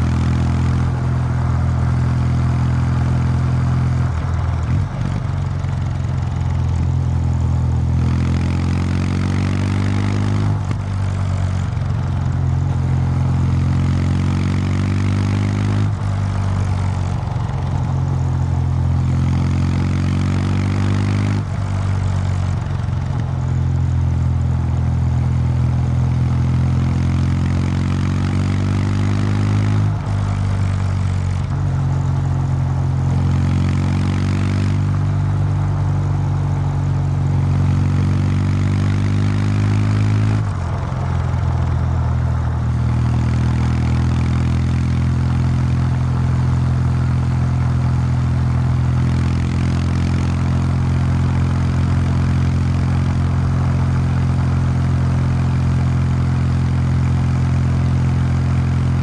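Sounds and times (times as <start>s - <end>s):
motorcycle engine revving under load: 0.0s - 59.0s.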